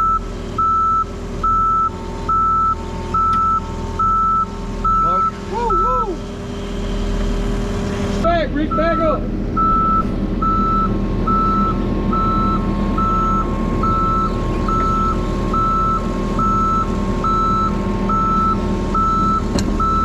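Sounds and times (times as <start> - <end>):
backup alarm beeping: 0.0 - 6.0, 8.6 - 20.0
diesel engine running: 0.0 - 20.0.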